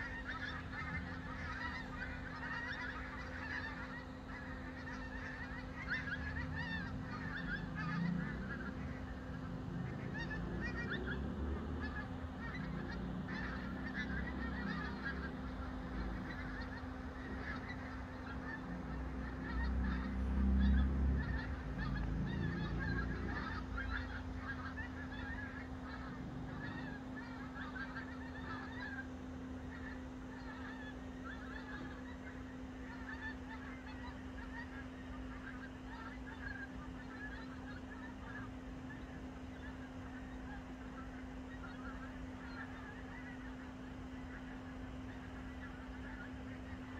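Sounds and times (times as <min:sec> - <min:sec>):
geese honking: 0:00.0 - 0:46.9.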